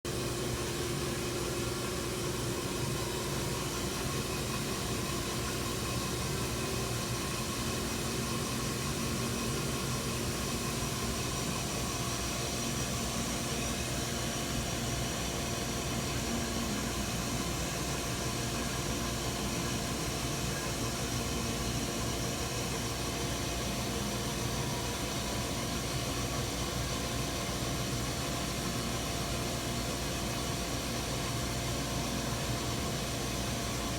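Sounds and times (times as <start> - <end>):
milling machine running: 0.1 - 33.9.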